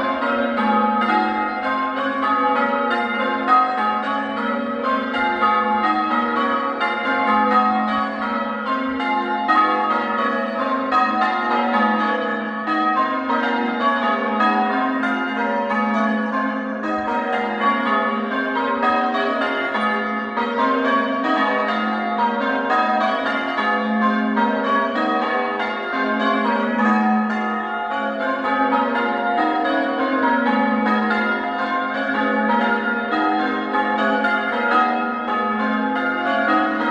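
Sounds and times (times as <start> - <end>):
church bells ringing: 0.0 - 36.9.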